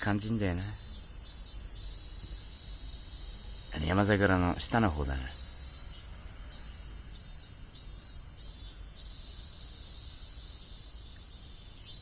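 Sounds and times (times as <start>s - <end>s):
cicada pulsing call: 0.0s - 12.0s
cicadas steady high buzz: 0.0s - 12.0s.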